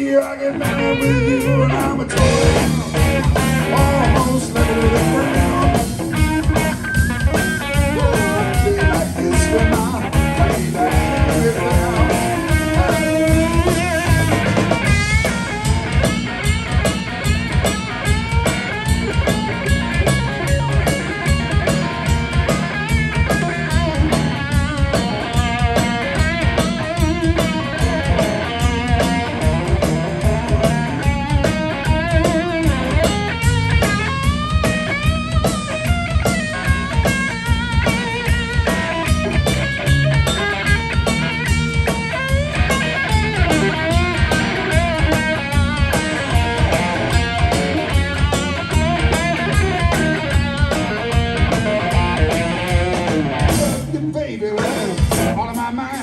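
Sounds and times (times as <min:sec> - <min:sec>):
bass guitar: 0:00.0 - 0:56.0
drum kit beat: 0:00.0 - 0:56.0
electric guitar lead: 0:00.0 - 0:56.0.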